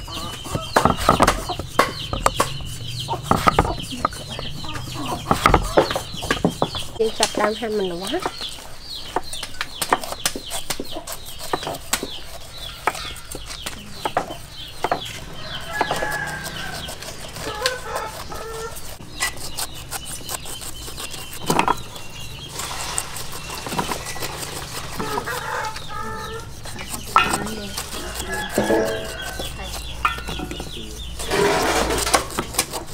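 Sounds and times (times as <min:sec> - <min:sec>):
chickens clucking: 0:00.0 - 0:32.9
knife cutting pineapple rind: 0:00.0 - 0:32.9.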